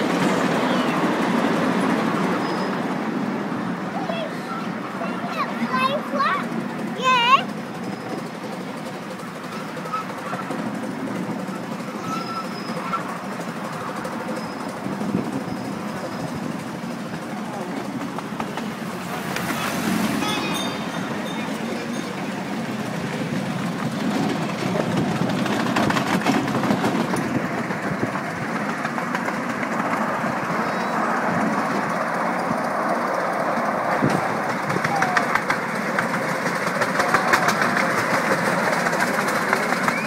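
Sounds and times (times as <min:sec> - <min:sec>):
train passing alongside: 0:00.0 - 0:40.0
wheels rattling on rail: 0:00.0 - 0:40.0.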